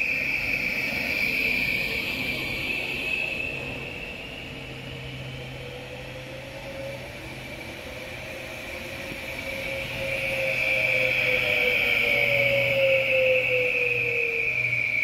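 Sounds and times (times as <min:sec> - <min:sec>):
train electric whine: 0:00.0 - 0:15.0.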